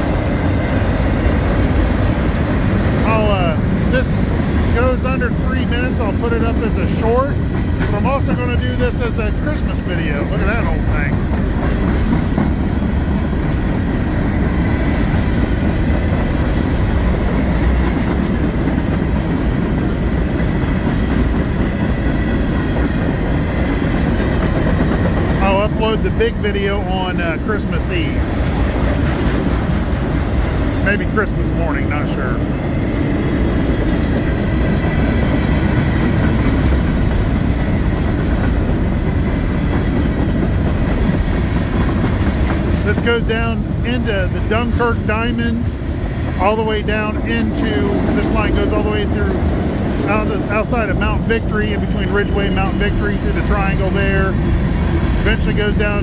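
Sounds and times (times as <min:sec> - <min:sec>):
freight train rolling past: 0:00.0 - 0:56.0
steel wheels clattering over rail joints: 0:00.0 - 0:56.0.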